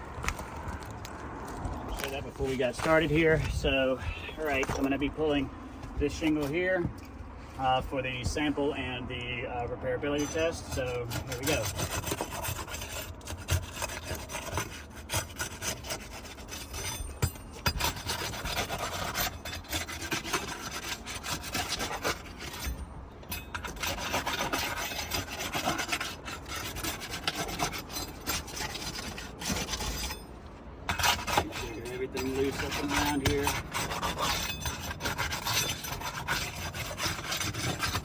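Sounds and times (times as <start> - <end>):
roof shingle scraping: 0.0 - 38.0.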